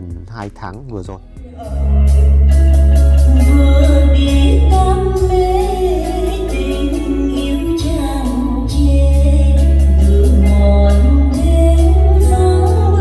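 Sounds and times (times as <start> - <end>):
song with heavy bass and beat: 0.0 - 13.0.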